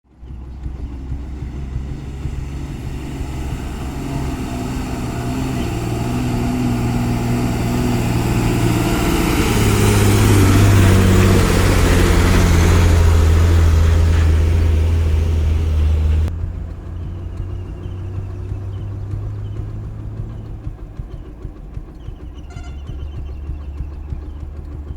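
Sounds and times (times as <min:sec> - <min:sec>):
heavy lorry diesel engine: 0:00.0 - 0:24.9.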